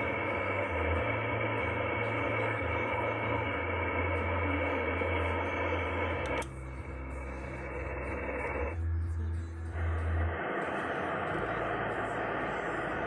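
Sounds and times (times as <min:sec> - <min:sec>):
faint steady whistling tones: 0:00.0 - 0:13.0
low hum: 0:00.0 - 0:13.0
radio static hiss: 0:00.0 - 0:13.0.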